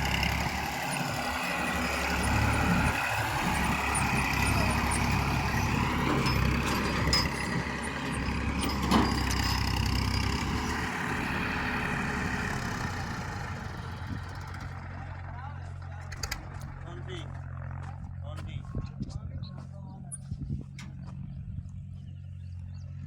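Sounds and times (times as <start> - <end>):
heavy vehicle engine running: 0.0 - 23.0.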